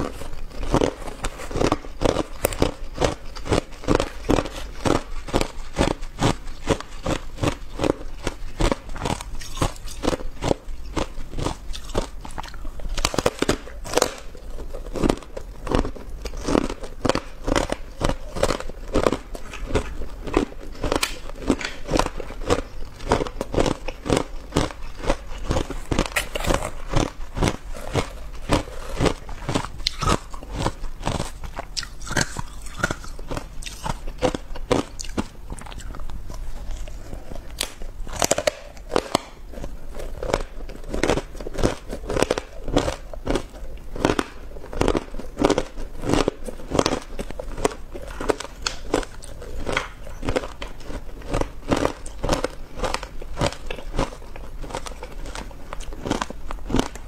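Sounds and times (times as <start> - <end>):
ice crunching between teeth: 0.0 - 57.0.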